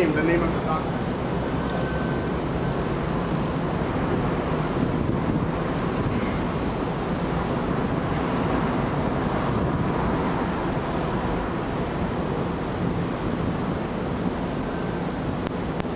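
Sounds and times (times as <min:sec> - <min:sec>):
cars driving past: 0:00.0 - 0:15.3.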